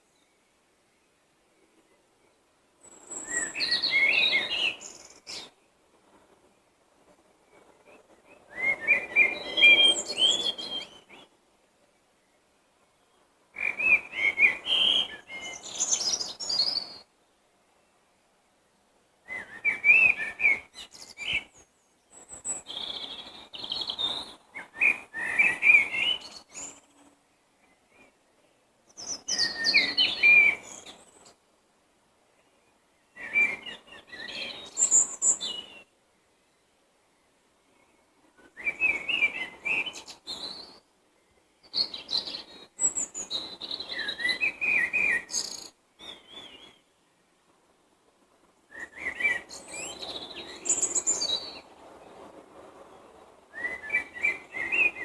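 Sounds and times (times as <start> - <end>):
songbird singing: 0.0 - 31.6, 32.2 - 47.5, 48.4 - 55.0.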